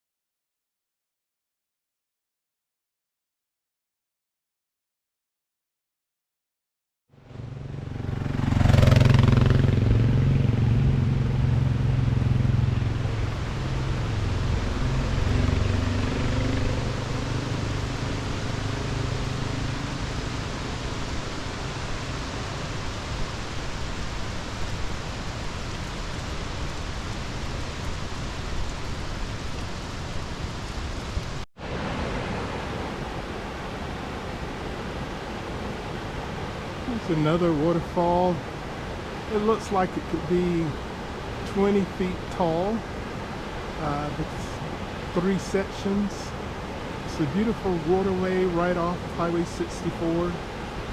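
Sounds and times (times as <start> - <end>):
vehicle passing by: 7.1 - 30.0, 30.6 - 50.9
waterfall rushing: 7.4 - 50.9.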